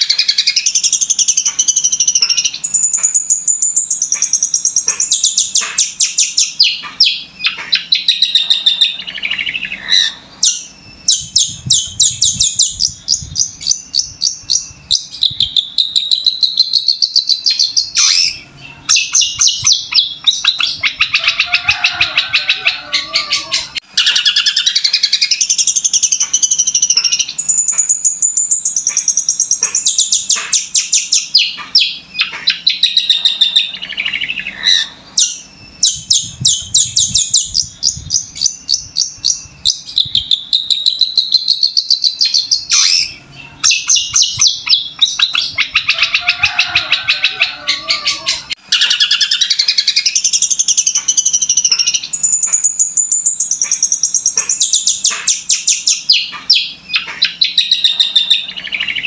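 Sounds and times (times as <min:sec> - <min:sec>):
bird singing chirps and trills: 0:00.0 - 0:59.0.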